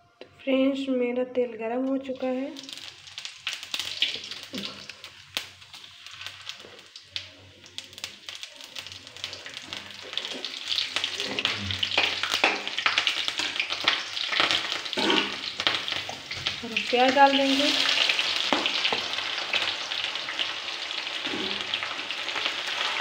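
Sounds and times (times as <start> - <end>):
spices spluttering in hot oil: 2.0 - 23.0.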